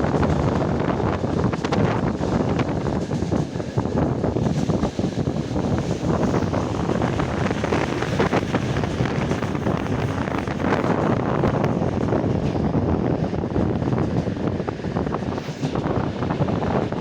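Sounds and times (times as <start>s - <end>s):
moving train running and rattling: 0.0s - 17.0s
wind buffeting microphone: 0.0s - 17.0s.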